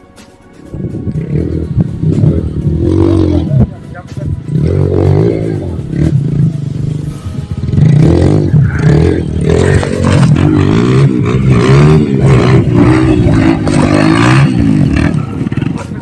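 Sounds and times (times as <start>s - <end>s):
motorcycle engine revving: 0.7s - 16.0s.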